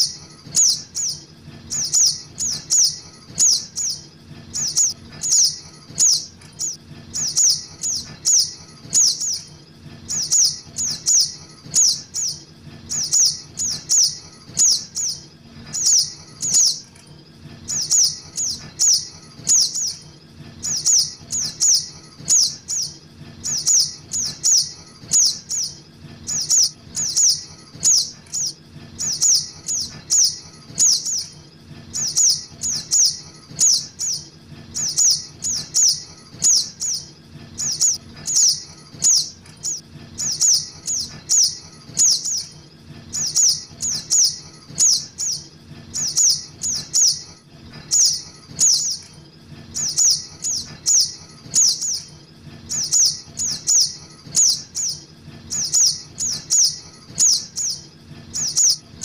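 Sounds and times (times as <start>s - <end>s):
juvenile sunbird begging calls: 0.0s - 16.9s, 17.6s - 20.0s, 20.6s - 42.5s, 43.1s - 59.0s.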